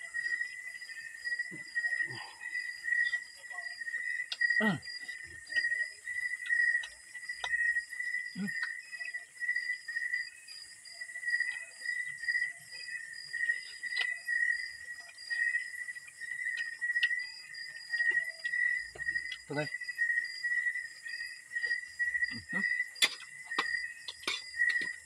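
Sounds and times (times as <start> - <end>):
night insects chirping: 0.0 - 25.0.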